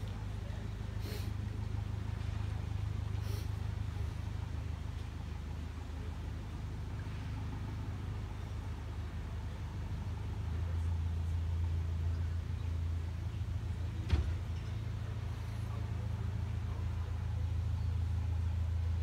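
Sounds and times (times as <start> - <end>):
boat engine chugging: 0.0 - 19.0.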